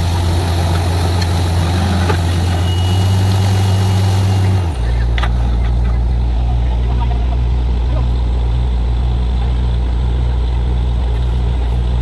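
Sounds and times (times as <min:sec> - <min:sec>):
drilling rig engine droning: 0:00.0 - 0:12.0.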